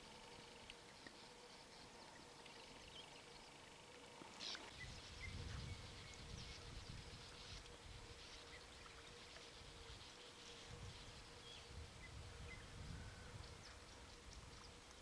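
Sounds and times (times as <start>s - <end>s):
faint bird chirps: 0.0s - 15.0s
faint steady hum: 0.0s - 15.0s.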